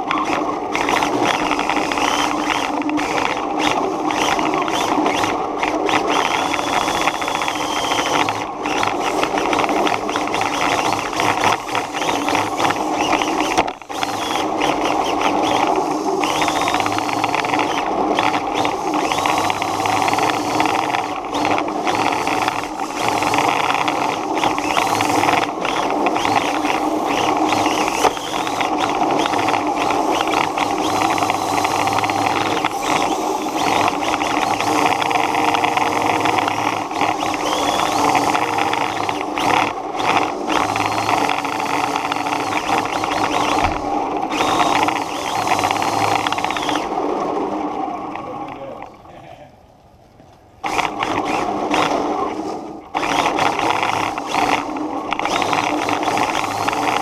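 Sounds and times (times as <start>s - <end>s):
small vehicle motor whirring: 0.0s - 48.8s, 50.6s - 57.0s.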